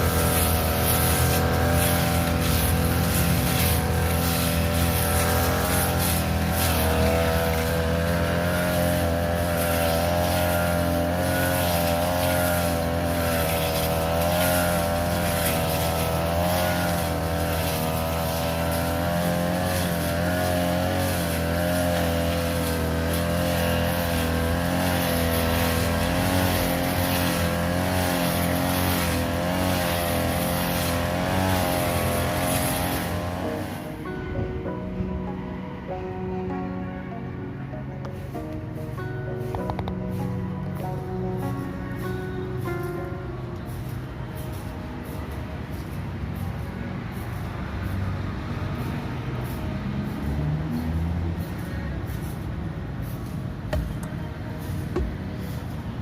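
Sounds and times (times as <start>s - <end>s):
lawn mower engine cutting grass: 0.0s - 56.0s.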